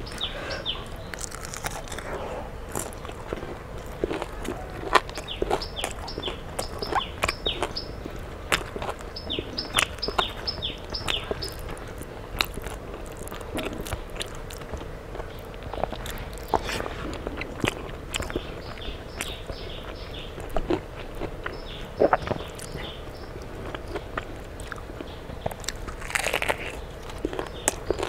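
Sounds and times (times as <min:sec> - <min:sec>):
bird chirping: 0:00.0 - 0:02.2, 0:02.8 - 0:12.1, 0:15.2 - 0:28.0
person chewing and crunching: 0:00.0 - 0:28.0.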